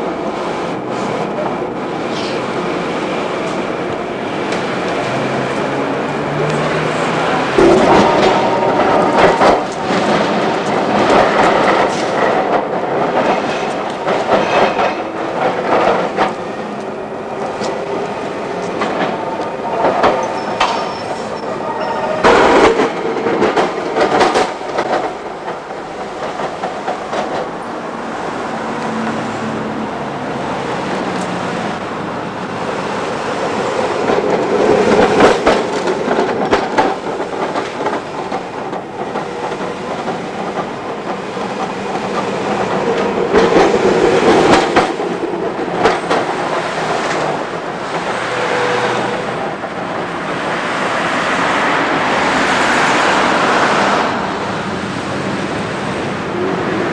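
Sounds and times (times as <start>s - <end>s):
tram wheels clattering over rail joints: 0.0s - 56.9s.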